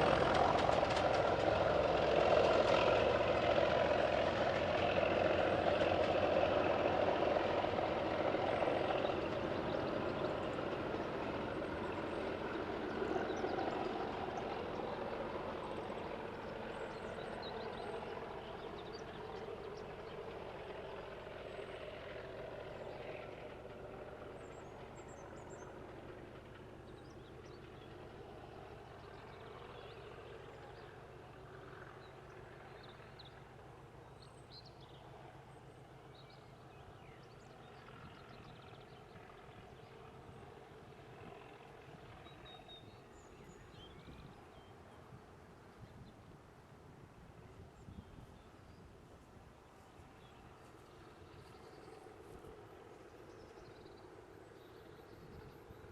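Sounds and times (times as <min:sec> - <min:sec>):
diesel locomotive engine rumble: 0:00.0 - 0:55.9.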